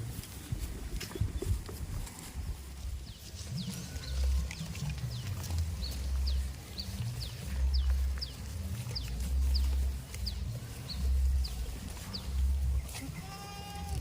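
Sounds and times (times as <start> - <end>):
low rumbling: 0.0 - 13.1.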